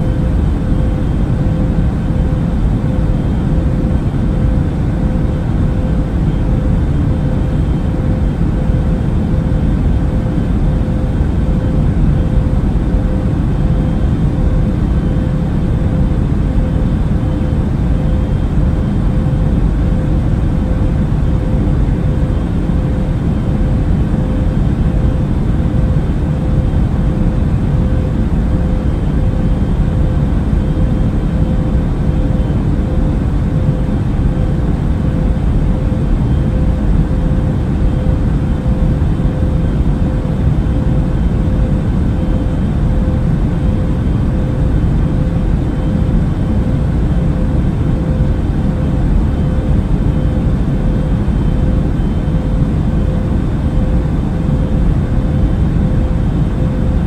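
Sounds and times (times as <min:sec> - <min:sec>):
faint steady hum: 0:00.0 - 0:57.0
jet airliner cabin drone: 0:00.0 - 0:57.0.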